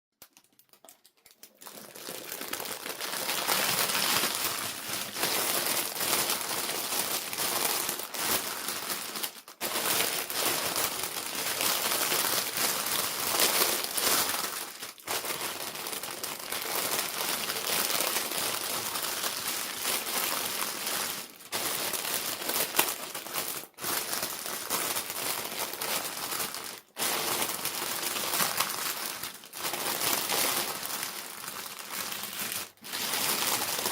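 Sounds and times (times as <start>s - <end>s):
plastic packaging crinkling: 0.2s - 33.9s.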